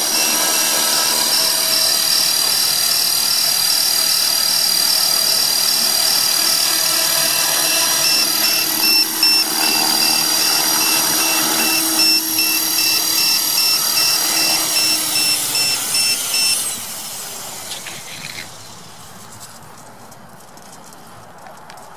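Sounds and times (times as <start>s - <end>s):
high-pitched motor whine: 0.0s - 19.0s
rotor blades whirring: 0.0s - 19.1s.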